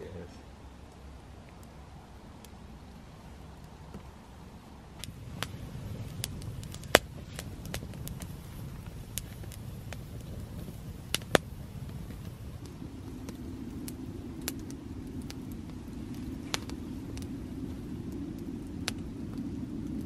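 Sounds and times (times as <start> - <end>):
campfire crackling and popping: 0.0 - 20.0
low rumble: 0.0 - 20.0.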